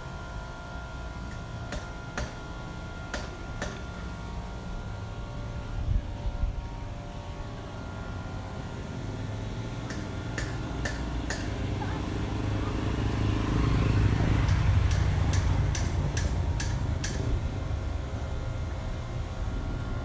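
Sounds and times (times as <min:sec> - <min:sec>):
vehicle engine rumble: 0:02.3 - 0:20.0.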